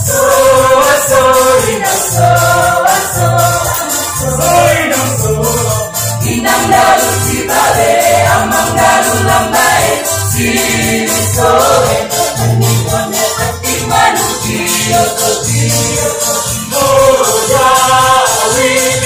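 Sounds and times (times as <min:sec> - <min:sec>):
mixed choir singing: 0:00.0 - 0:19.0
steady danceable beat: 0:00.0 - 0:19.0.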